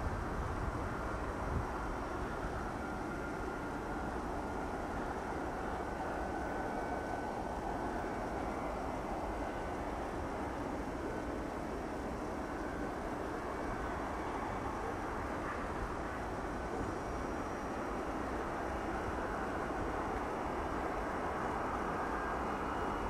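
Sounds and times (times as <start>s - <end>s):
faint high engine whine: 0.0s - 23.0s.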